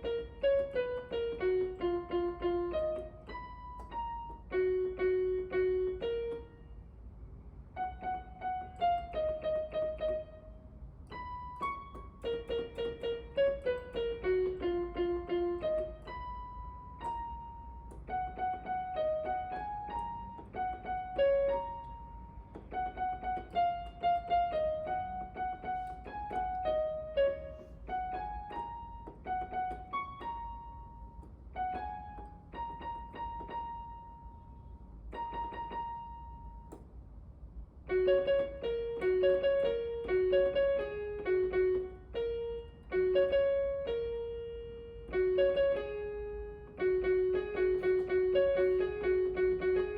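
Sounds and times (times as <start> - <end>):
piano melody: 0.0 - 49.9.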